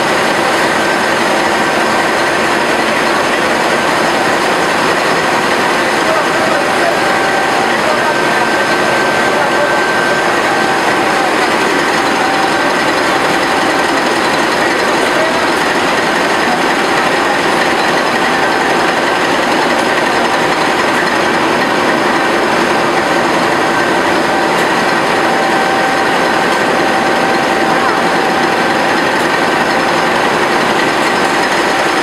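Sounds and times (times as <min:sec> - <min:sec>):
diesel engine room din: 0:00.0 - 0:32.0
steady whining tones: 0:00.0 - 0:32.0.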